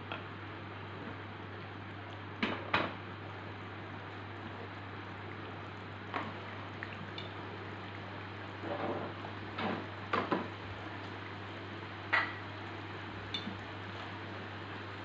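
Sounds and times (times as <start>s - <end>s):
gas stove hum and hiss: 0.0s - 15.0s.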